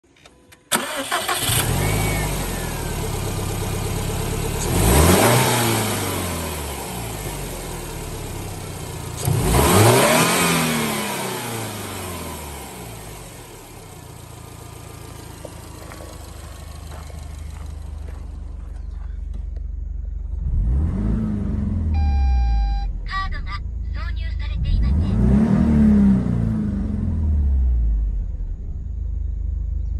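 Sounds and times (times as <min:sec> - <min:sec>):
car engine idling and revving: 0:00.2 - 0:29.9.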